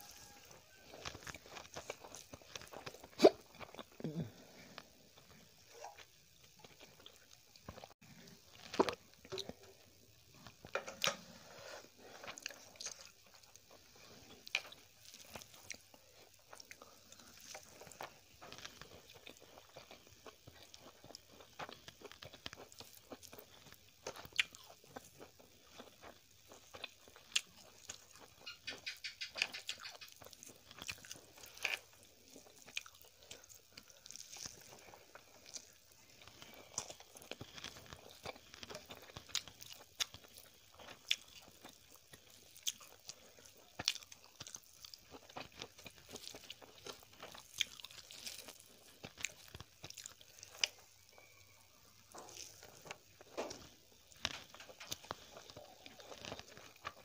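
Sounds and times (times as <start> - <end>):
soft crunching chewing: 0.0 - 57.0.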